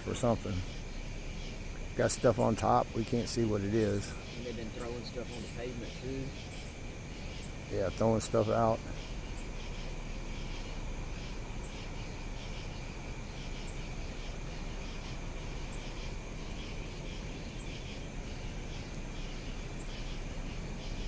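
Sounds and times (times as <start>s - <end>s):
insects chirping: 0.0s - 21.0s
low steady rumble: 0.0s - 21.0s.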